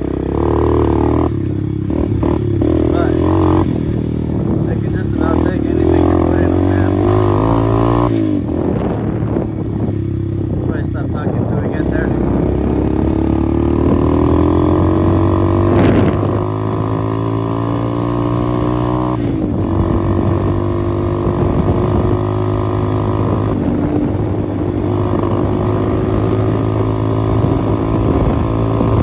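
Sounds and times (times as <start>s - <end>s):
motorbike engine running: 0.0s - 29.0s.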